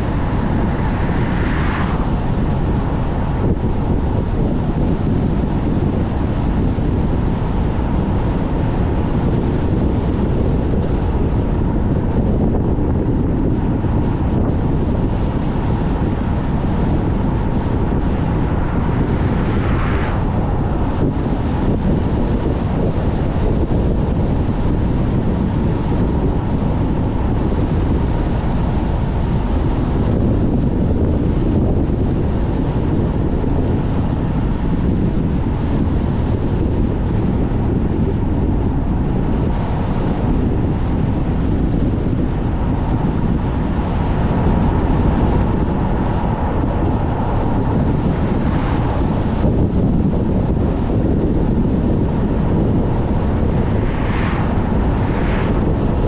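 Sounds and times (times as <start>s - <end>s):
car road noise: 0.0s - 56.0s
gusty wind around a moving car: 0.0s - 56.0s.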